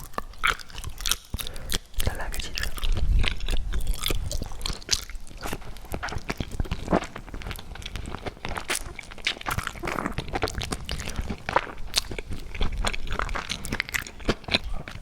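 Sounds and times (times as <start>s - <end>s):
crisp crunches and clicks: 0.0s - 15.0s
person chewing food: 0.0s - 15.0s.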